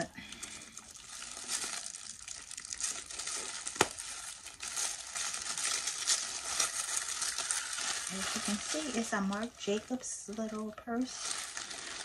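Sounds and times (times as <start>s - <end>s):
tissue paper crinkling: 0.3s - 12.0s.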